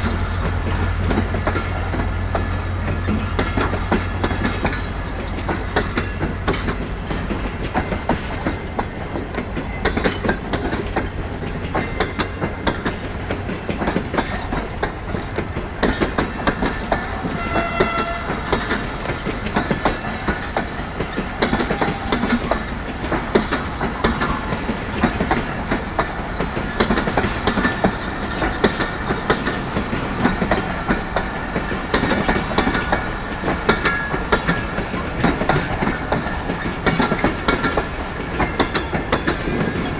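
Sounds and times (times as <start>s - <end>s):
steady train rumble: 0.0s - 39.9s
train wheels clattering over rail joints: 0.0s - 39.9s.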